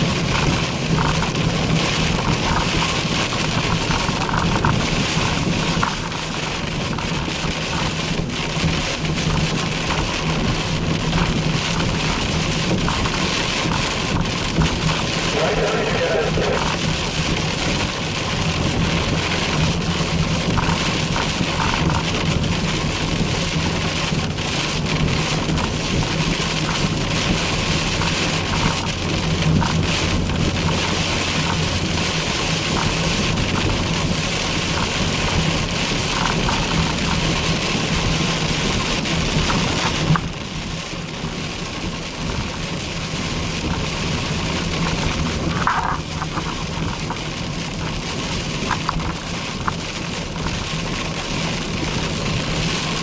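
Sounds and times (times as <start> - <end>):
engine and road hum: 0.0 - 53.0
rain pelting a car: 0.0 - 53.0.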